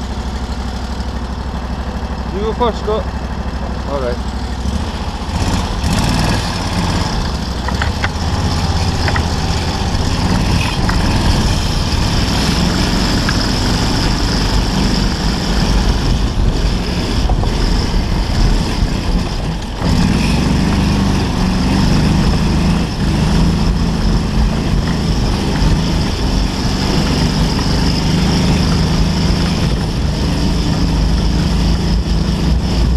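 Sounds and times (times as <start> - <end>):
buggy engine revving: 0.0 - 32.9.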